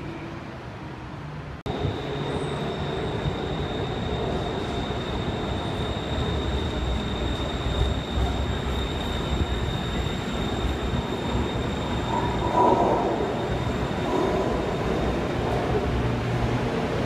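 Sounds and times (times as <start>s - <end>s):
train rumble: 1.7s - 17.0s.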